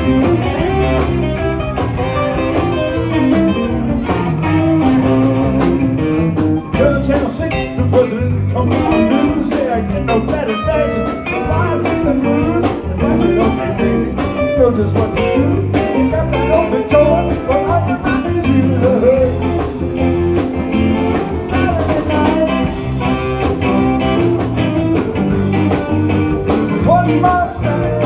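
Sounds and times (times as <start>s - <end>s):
bent electric guitar notes: 0.0s - 28.0s
rock band playing: 0.0s - 28.0s.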